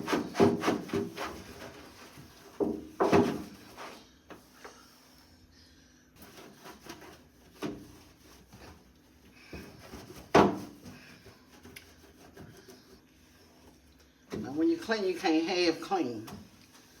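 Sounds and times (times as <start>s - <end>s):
sponge scrubbing microwave: 0.0s - 5.1s, 6.1s - 17.0s.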